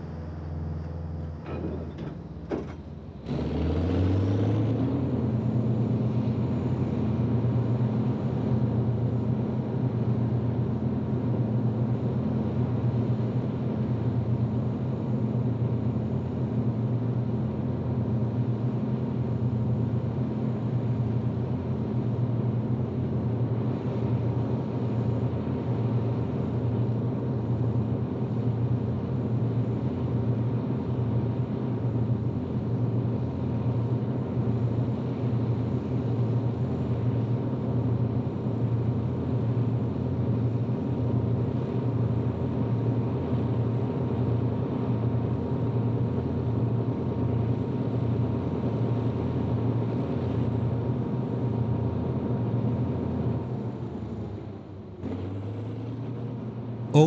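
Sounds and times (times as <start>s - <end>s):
diesel locomotives droning: 0.0s - 57.0s.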